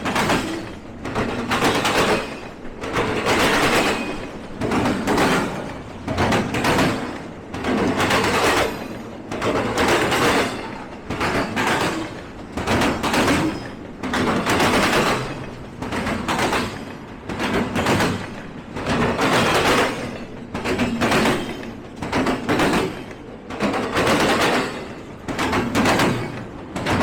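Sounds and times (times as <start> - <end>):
train wheels clattering over rails: 0.0 - 27.0.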